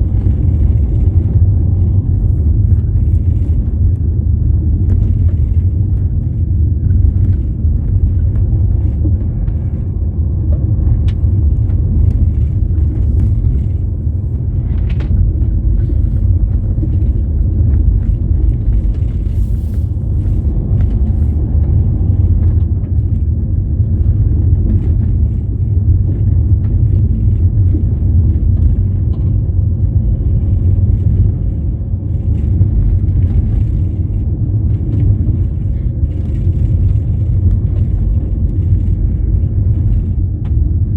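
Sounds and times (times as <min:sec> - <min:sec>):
vehicle driving rumble: 0:00.0 - 0:40.9.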